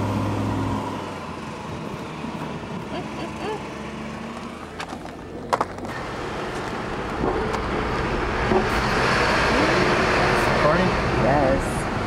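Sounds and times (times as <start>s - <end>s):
car rumble: 0.0s - 12.0s.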